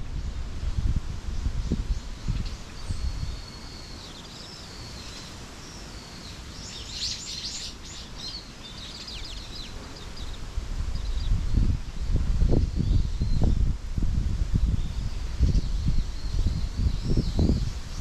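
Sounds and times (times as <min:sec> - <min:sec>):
songbirds chirping and singing: 0:01.6 - 0:13.6, 0:14.8 - 0:18.0.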